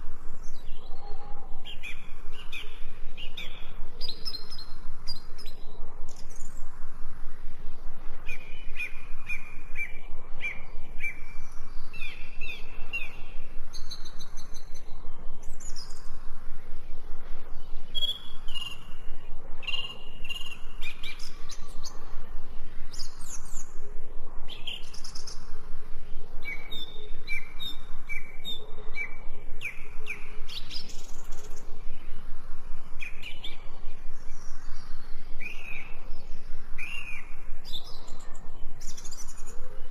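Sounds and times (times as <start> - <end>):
birds chirping and singing: 0.3 - 6.6, 8.2 - 16.2, 17.5 - 22.2, 24.5 - 25.5, 26.4 - 32.1, 32.9 - 39.9.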